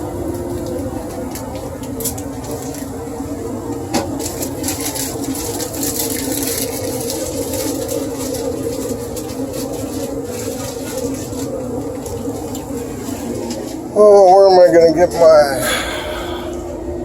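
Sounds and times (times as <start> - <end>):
furnace humming: 0.0 - 17.0.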